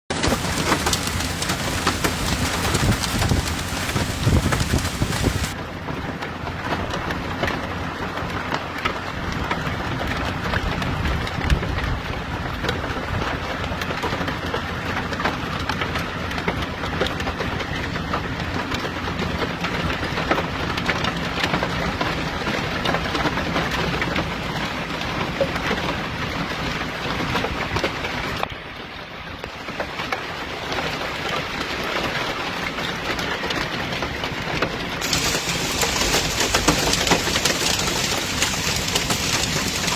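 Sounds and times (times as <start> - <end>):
hail and heavy rain pelting: 0.1 - 5.6, 6.3 - 28.4, 29.6 - 39.9.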